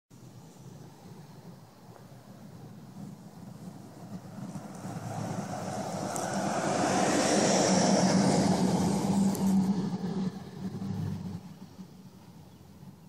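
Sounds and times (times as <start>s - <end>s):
passing vehicle engine hum: 0.8s - 13.0s.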